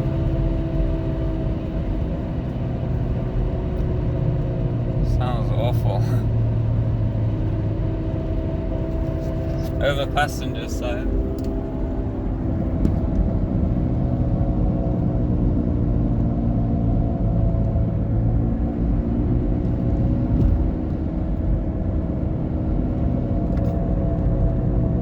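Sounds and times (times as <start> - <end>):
car engine drone: 0.0 - 25.0
road rumble: 0.0 - 25.0.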